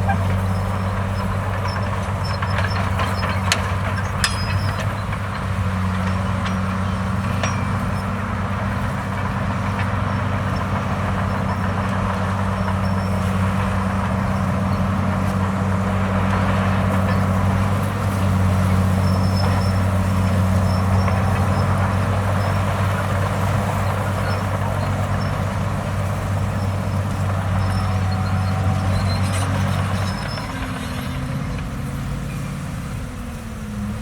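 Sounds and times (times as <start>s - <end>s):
faint high squeaks: 0.0s - 5.2s, 5.9s - 32.6s
large diesel engine droning: 0.0s - 34.0s.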